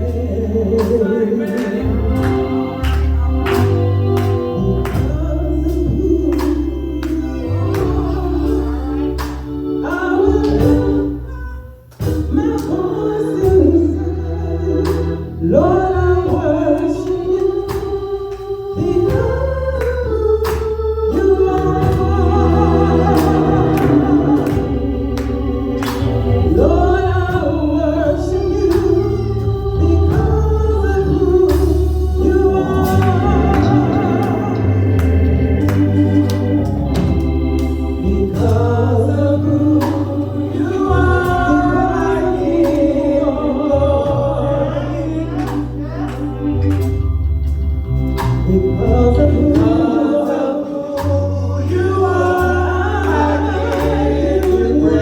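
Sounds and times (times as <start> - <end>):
bass and drum beat: 0.0 - 55.0
gospel singing: 0.0 - 55.0
organ accompaniment: 0.0 - 55.0.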